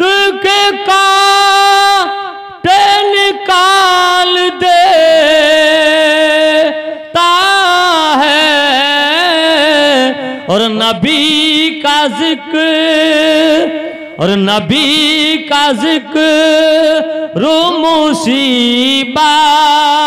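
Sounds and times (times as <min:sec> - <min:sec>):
man singing melismatic notes: 0:00.0 - 0:20.0.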